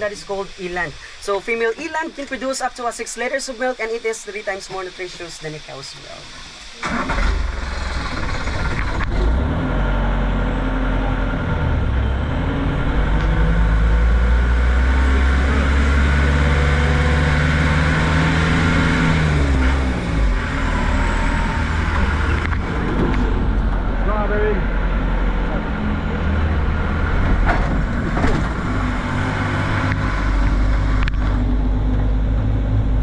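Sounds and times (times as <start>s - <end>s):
vehicle engine running: 6.0s - 33.0s.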